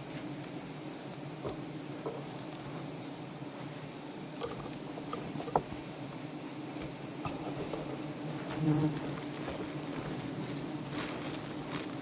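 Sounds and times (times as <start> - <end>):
bees buzzing: 0.1 - 12.0.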